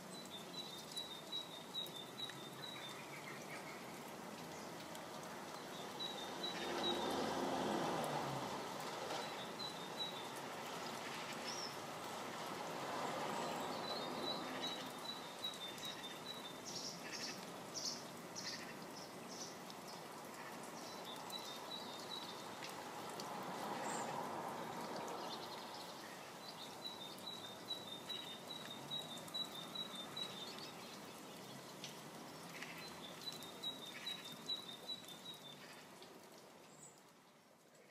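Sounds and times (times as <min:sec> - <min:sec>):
rain hissing: 0:00.0 - 0:37.9.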